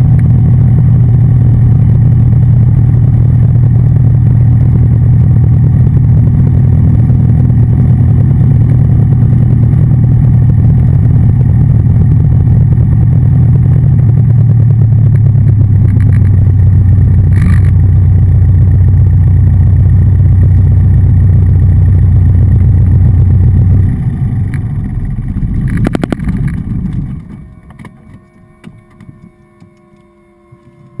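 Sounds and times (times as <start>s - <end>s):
airplane engine and propeller: 0.0s - 31.0s
engine rattle: 0.0s - 31.0s.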